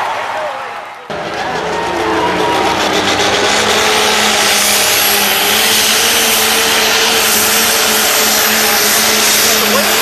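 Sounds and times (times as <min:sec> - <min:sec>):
diesel tractor engine roaring: 0:01.1 - 0:10.0
high thin whine: 0:01.7 - 0:10.0.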